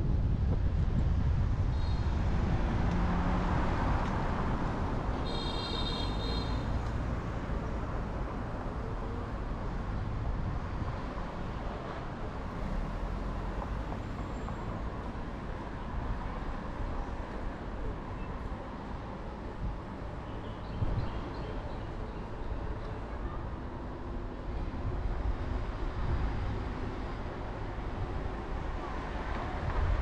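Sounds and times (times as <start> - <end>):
cars driving through intersection: 1.3 - 30.0.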